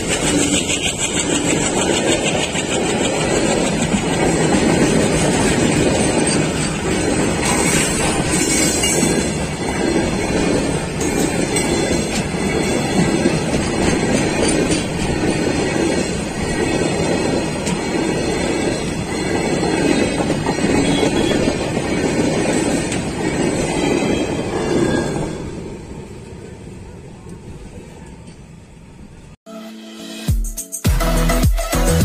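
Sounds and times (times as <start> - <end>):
train wheels running on rails: 0.0 - 29.2.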